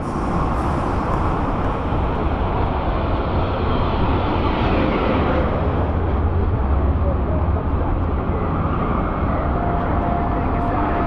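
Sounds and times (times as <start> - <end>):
road noise: 0.0 - 11.0
wind rumble on microphone: 0.0 - 11.0.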